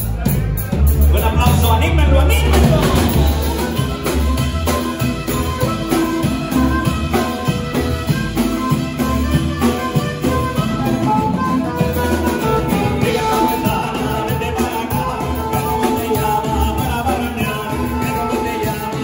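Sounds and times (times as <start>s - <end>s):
acoustic guitar: 0.0s - 19.0s
bass guitar: 0.0s - 19.0s
drum kit: 0.0s - 19.0s
saxophone: 2.3s - 19.0s.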